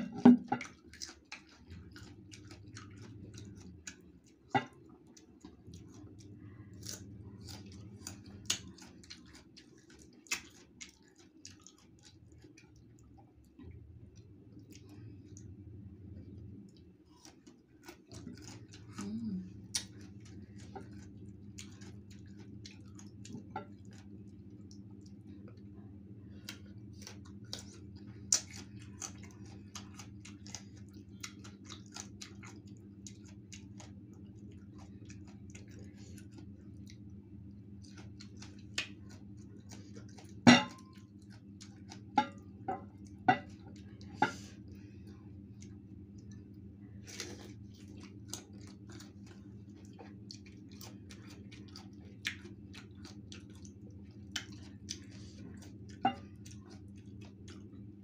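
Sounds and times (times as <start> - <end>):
steady low hum: 0.0 - 58.0
wet chewing clicks and smacks: 0.0 - 58.0.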